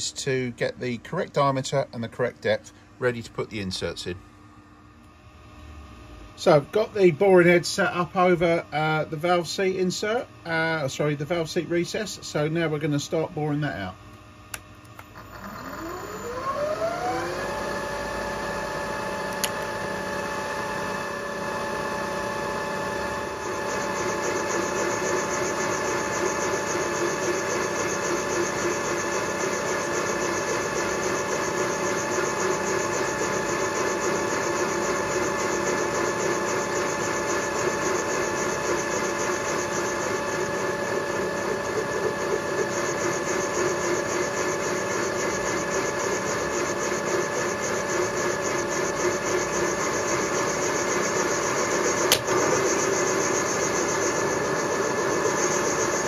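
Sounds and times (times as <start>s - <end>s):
milling machine spindle whine: 5.6s - 56.0s.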